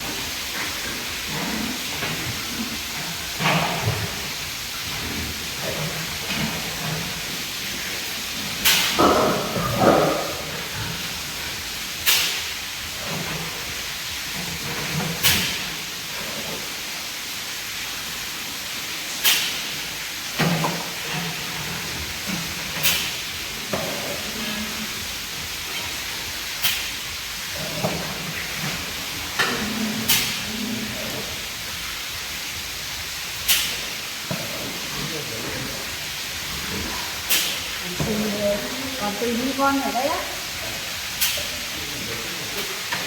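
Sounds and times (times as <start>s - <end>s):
high-pressure water spray hissing: 0.0s - 43.0s.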